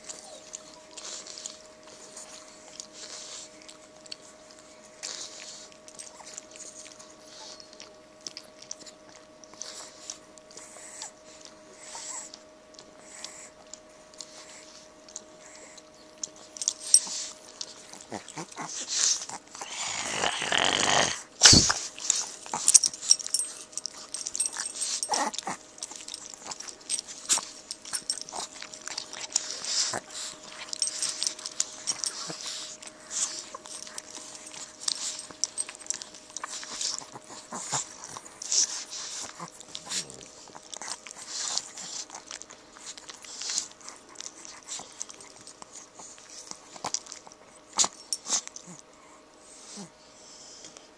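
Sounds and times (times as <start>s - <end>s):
dogs play-fighting: 0.0s - 50.9s.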